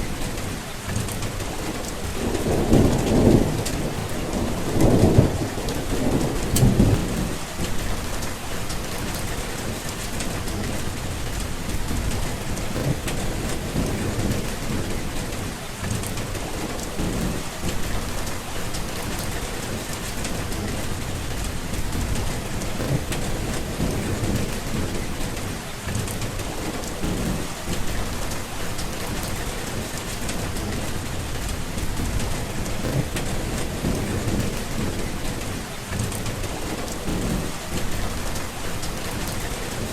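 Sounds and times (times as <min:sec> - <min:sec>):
steady rain: 0:00.0 - 0:39.9
thunder rolling: 0:00.0 - 0:39.9.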